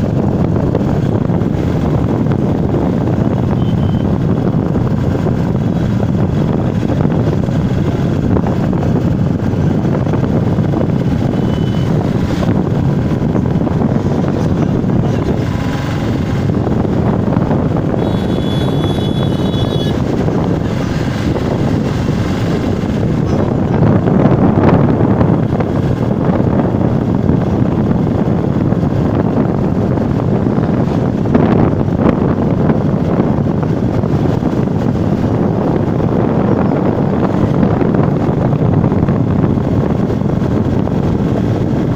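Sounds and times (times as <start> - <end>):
motorcycle engine and road noise: 0.0 - 41.9
wind on microphone: 0.0 - 41.9.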